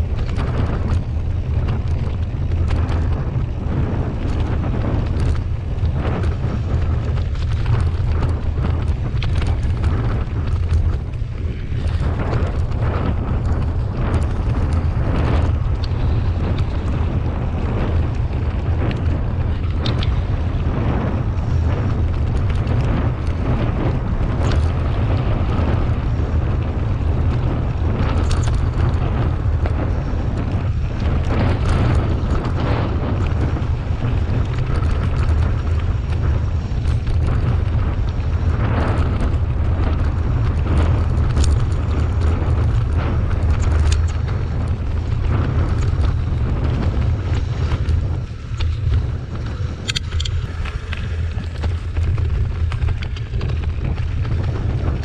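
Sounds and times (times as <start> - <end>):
bike clicks and rattles: 0.0 - 55.0
bike tyres on dirt trail: 0.0 - 55.0
wind rumble on microphone: 0.0 - 55.0.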